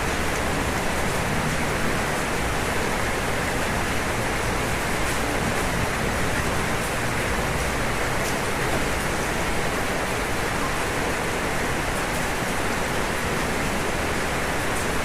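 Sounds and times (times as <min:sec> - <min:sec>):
heavy rain on a roof: 0:00.0 - 0:15.0.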